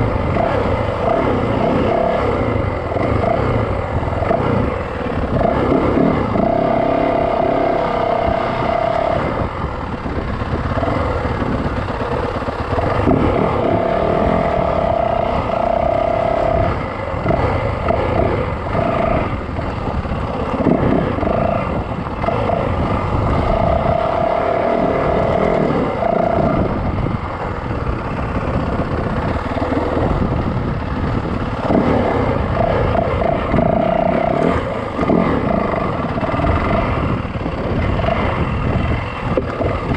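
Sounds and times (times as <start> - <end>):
dirt bike riding noise: 0.0 - 39.9
engine whine: 0.0 - 39.9.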